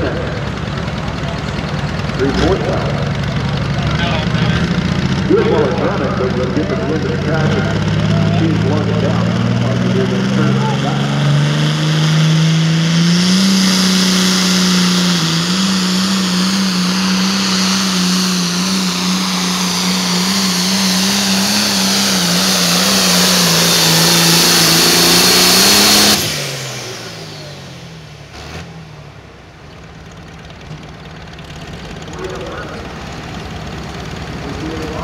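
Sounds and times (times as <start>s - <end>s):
tractor engine at full throttle: 0.0s - 35.0s.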